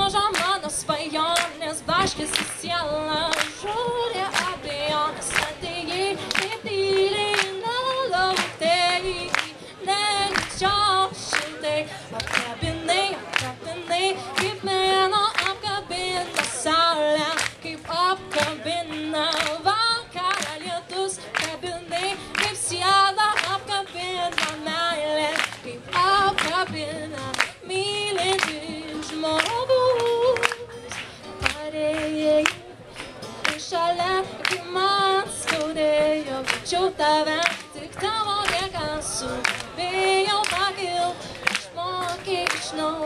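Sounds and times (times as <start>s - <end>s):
woman singing: 0.0s - 32.7s, 33.4s - 43.0s
strummed acoustic guitar: 0.0s - 43.0s.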